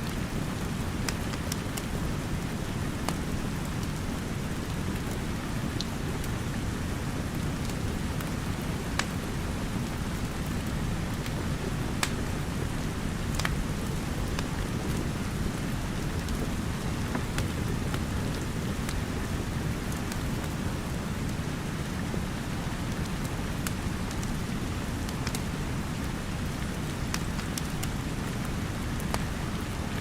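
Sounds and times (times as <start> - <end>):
steady rain with low rumble: 0.0 - 30.0
wood fire crackling: 0.0 - 30.0.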